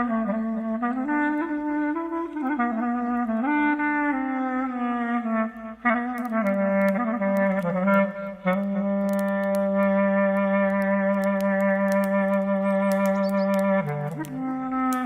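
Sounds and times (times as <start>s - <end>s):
solo clarinet melody: 0.0s - 15.0s
campfire crackling: 1.0s - 15.0s.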